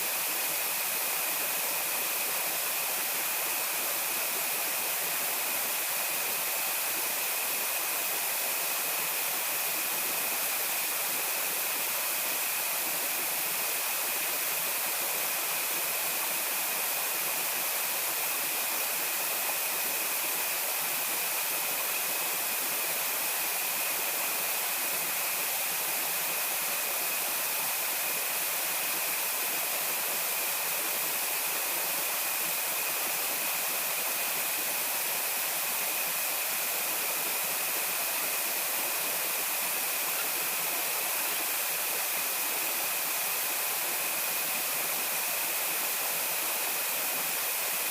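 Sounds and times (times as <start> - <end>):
rushing hiss: 0.0 - 47.9.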